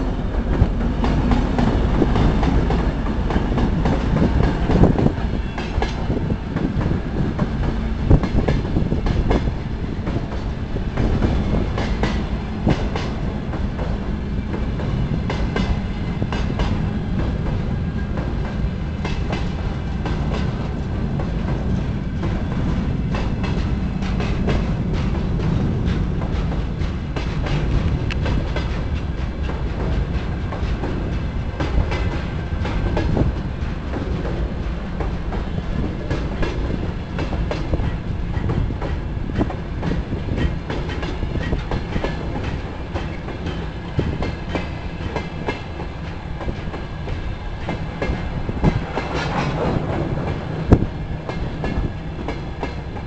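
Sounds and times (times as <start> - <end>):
freight train rolling by: 0.0 - 53.0
wheels clacking over rail joints: 0.0 - 53.0.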